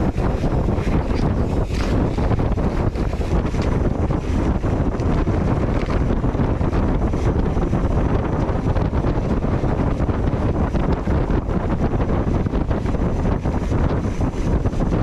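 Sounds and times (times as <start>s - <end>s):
bike tyres rumbling and rattling: 0.0s - 15.0s
wind buffeting microphone: 0.0s - 15.0s.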